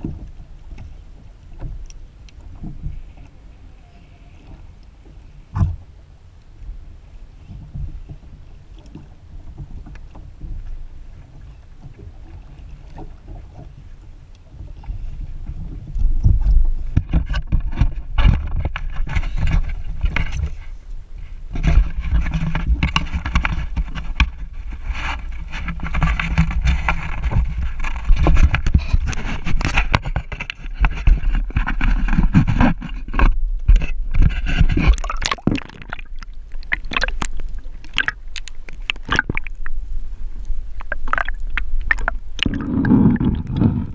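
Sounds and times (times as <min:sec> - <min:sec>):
water: 0:00.0 - 0:43.9
wind: 0:00.0 - 0:43.9.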